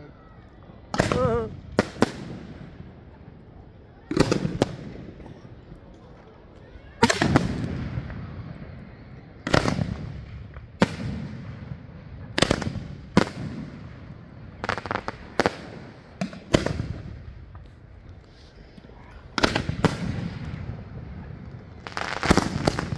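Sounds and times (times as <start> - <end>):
fireworks bangs with rumbling echo: 0.8 - 5.6, 7.0 - 18.0, 19.2 - 22.9.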